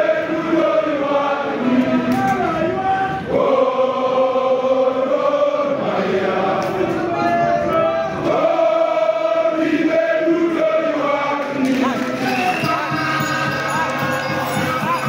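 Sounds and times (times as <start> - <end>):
football crowd singing a chant: 0.0 - 15.0.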